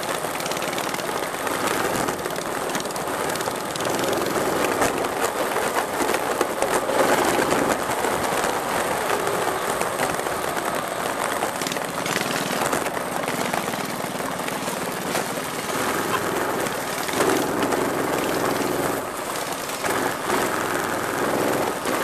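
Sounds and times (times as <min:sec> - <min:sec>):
minibike engines revving: 0:00.0 - 0:22.0.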